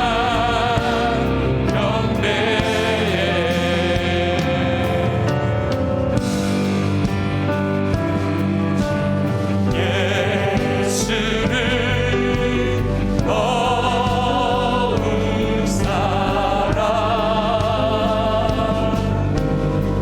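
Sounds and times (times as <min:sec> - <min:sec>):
people singing with vibrato: 0:00.0 - 0:20.0
praise band playing: 0:00.0 - 0:20.0.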